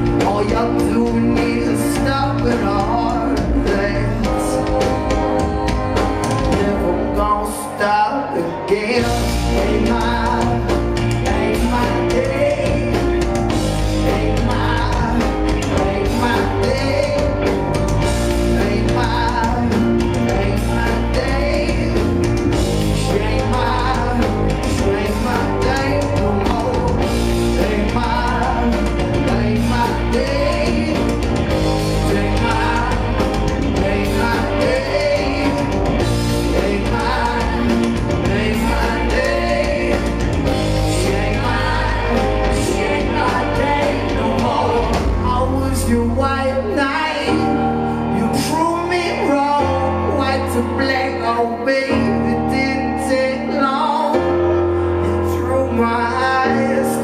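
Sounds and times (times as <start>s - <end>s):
live rock band playing: 0.0s - 57.0s
man singing lead vocal: 0.0s - 57.0s.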